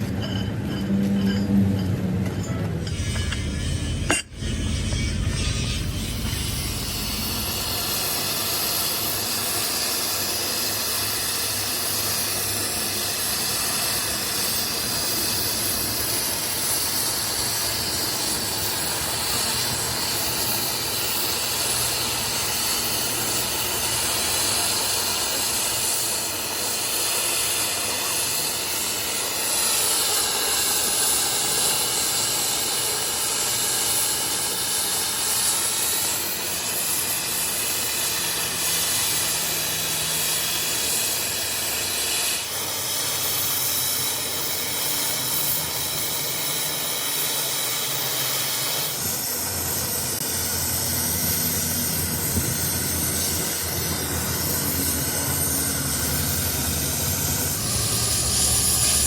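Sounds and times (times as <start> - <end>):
loud steady hiss: 3.0 - 59.0.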